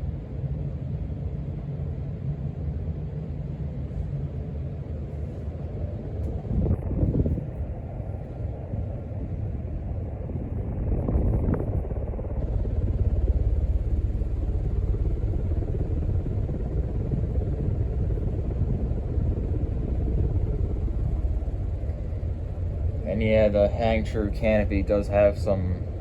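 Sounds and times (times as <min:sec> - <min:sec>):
ceiling fan running: 0:03.4 - 0:26.0.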